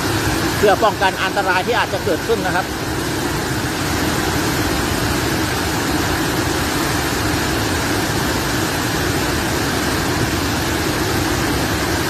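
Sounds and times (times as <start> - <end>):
water rushing down waterfall: 0.0 - 12.0.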